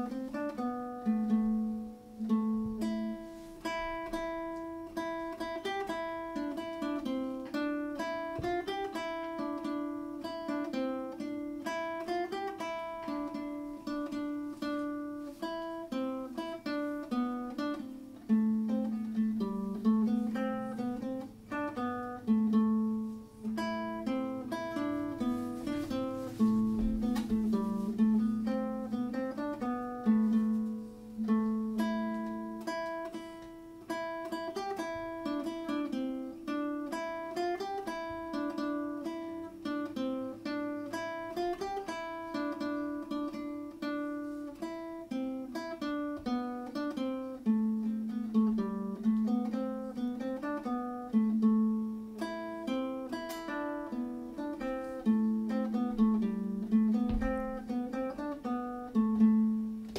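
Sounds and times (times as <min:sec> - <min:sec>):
fingerpicked classical guitar: 0:00.0 - 0:59.9.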